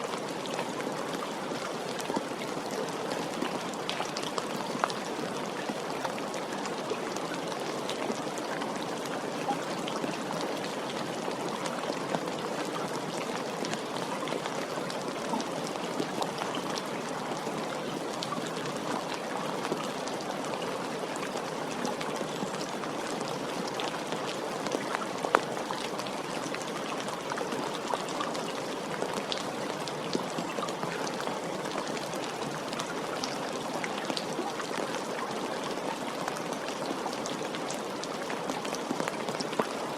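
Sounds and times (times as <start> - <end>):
rain drops pattering on surface: 0.0 - 39.9.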